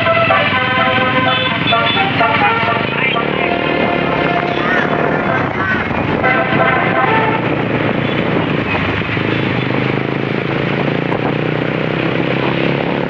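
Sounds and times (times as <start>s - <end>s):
low engine hum: 0.0s - 13.0s
passing vehicles rumble: 0.0s - 13.0s.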